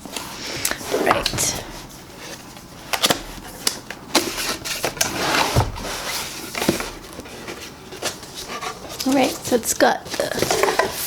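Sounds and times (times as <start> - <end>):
cardboard rustling: 0.0 - 11.0.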